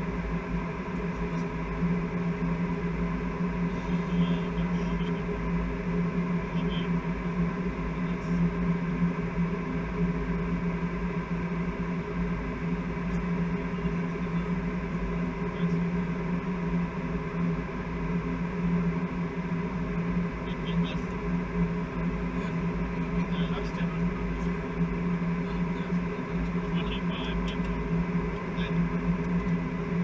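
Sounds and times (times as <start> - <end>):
cockpit drone of air and machinery: 0.0 - 30.0.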